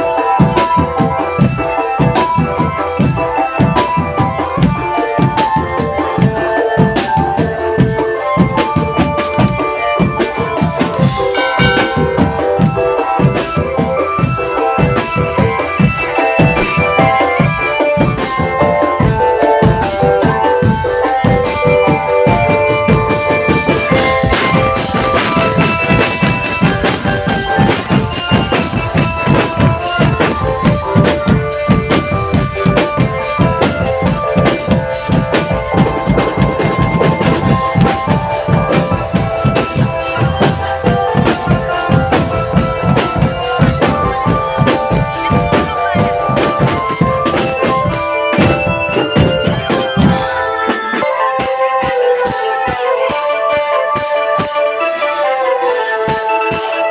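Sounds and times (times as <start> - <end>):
marching drum band playing: 0.0 - 53.2.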